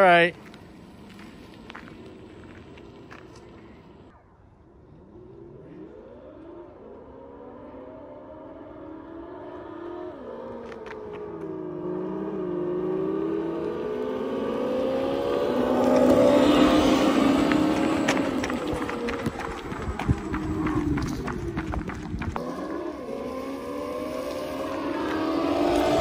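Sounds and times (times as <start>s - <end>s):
electric go-karts whining: 4.7s - 26.0s.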